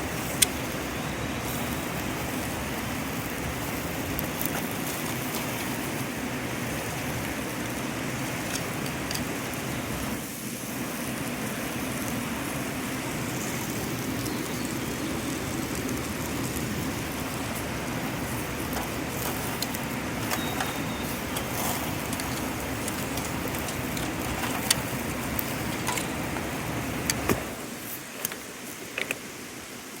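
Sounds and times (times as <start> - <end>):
grease popping and crackling: 0.0 - 10.3, 11.0 - 29.2
meat sizzling on a grill: 0.0 - 30.0.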